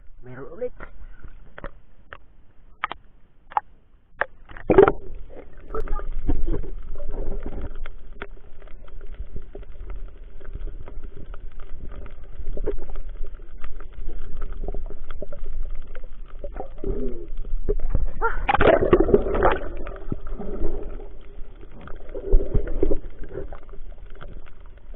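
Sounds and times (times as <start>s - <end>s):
faint steady hum: 0.0s - 24.9s
low rumbling underwater noise: 0.0s - 24.9s.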